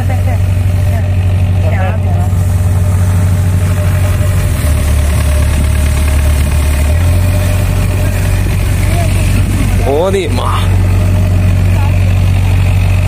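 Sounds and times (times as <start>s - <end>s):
excavator diesel engine drone: 0.0s - 13.0s.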